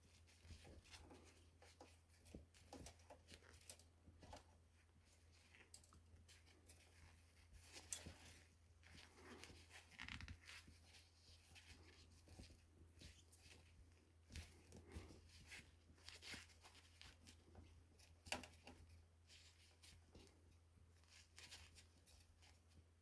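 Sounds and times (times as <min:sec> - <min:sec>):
small parts clicking and rustling: 0:00.2 - 0:13.7, 0:14.3 - 0:20.3.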